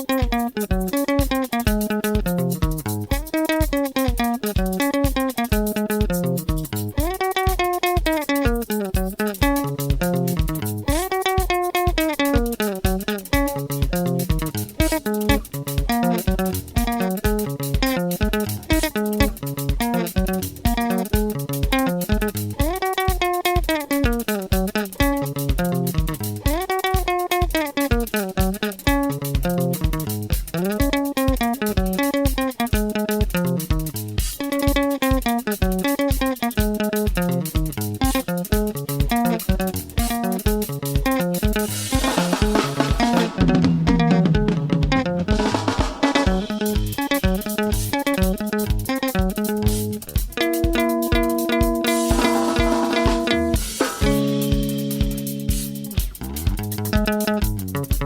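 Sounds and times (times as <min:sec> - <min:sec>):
bass guitar: 0:00.0 - 0:58.0
fast steady beat: 0:00.0 - 0:58.0
plucked guitar lines: 0:00.0 - 0:58.0.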